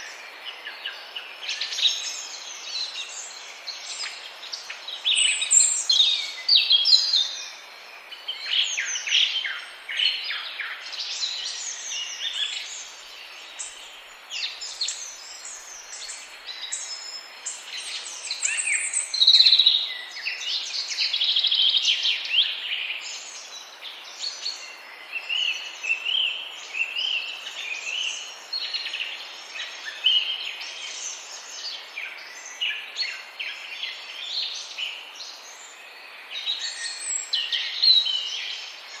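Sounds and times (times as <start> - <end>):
birds chirping in chorus: 0.0 - 39.0
steady background hiss: 0.0 - 39.0.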